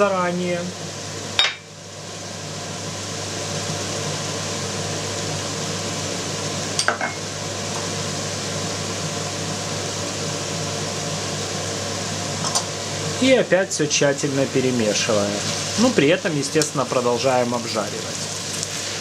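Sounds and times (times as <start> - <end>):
meat and rice sizzling: 0.0 - 19.0.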